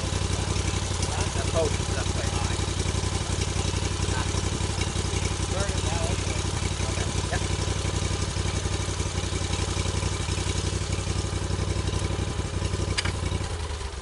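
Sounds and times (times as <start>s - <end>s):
sawmill engine idling: 0.0s - 14.0s.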